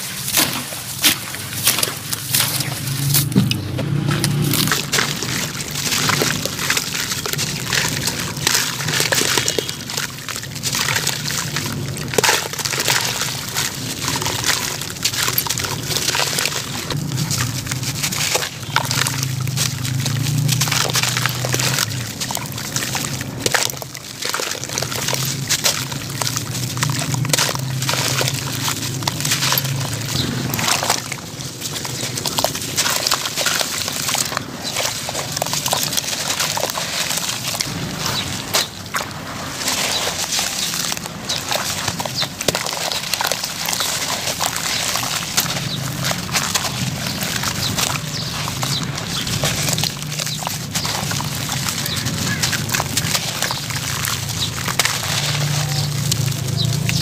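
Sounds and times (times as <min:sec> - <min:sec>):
gritty cement crunching: 0:00.0 - 0:57.0
water splashing in bucket: 0:00.0 - 0:57.0.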